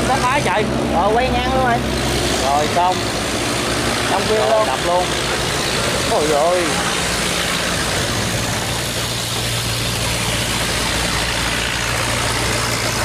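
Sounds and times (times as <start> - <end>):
boat engine running: 0.0 - 13.0
broad rushing noise: 0.0 - 13.0.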